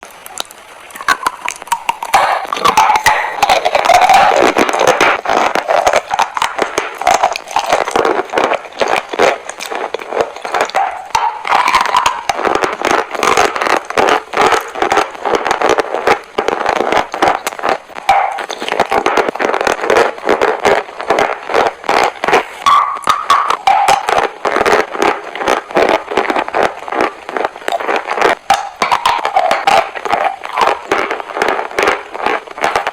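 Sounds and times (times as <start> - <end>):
crunching and chewing chalk: 0.0 - 32.9.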